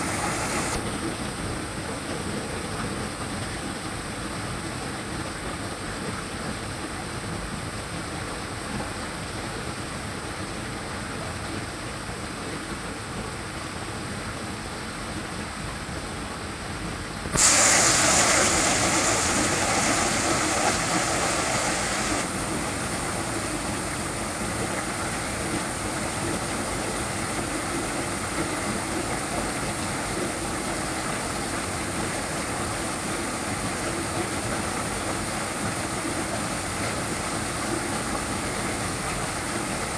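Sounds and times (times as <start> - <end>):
water rushing at waterfall: 0.0 - 39.9.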